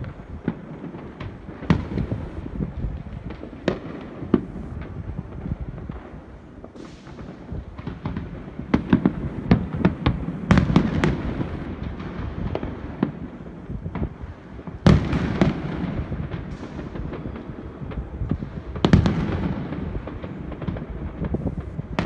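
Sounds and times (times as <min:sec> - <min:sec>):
fireworks bangs and booms: 0:00.0 - 0:22.0.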